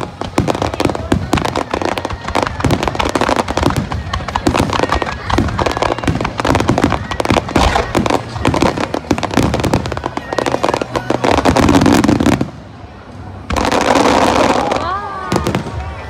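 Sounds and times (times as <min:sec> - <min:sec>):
firework crackling: 0:00.0 - 0:16.0.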